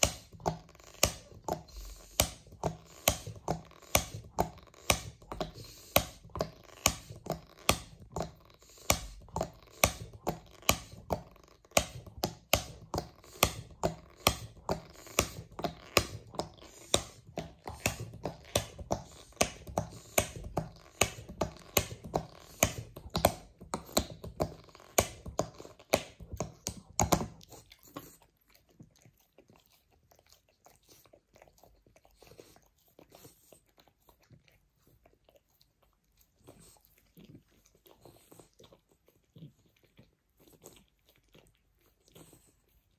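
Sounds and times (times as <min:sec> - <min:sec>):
dog chewing a chew toy: 0:00.0 - 0:42.9.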